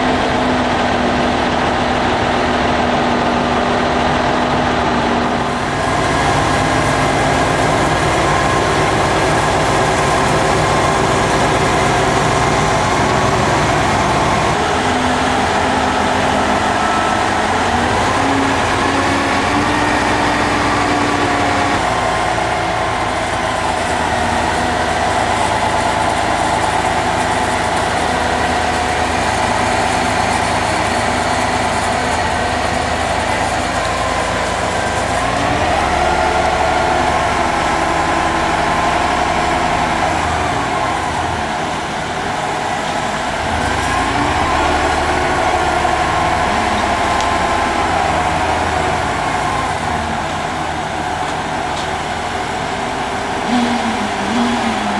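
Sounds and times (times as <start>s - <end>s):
crane engine running under load: 0.0s - 54.9s.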